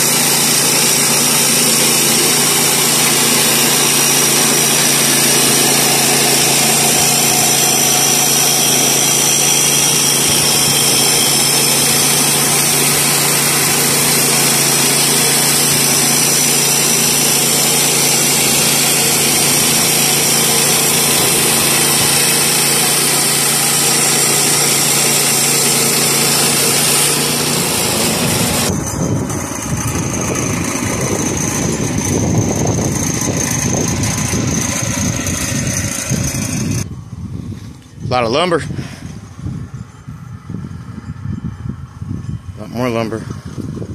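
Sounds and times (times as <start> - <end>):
band blade sawing wood: 0.0 - 36.9
rough uneven machine noise: 0.0 - 41.3
gasoline engine running under load: 0.0 - 43.9.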